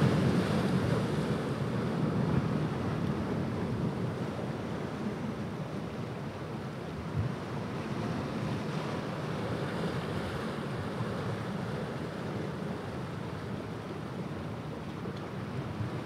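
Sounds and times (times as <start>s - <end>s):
ocean surf breaking on sand: 0.0s - 16.0s.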